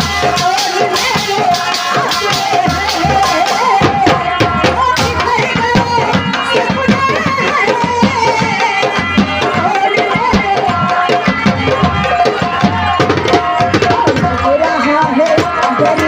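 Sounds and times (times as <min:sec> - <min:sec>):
hand drum fast rhythm: 0:00.0 - 0:16.0.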